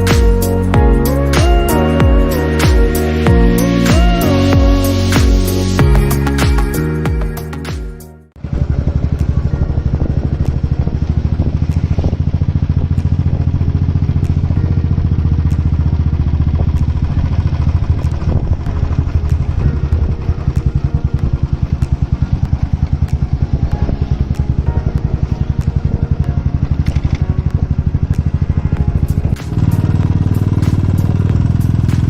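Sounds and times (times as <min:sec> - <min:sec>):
motorcycle engine running: 0:00.0 - 0:07.7, 0:08.4 - 0:32.0.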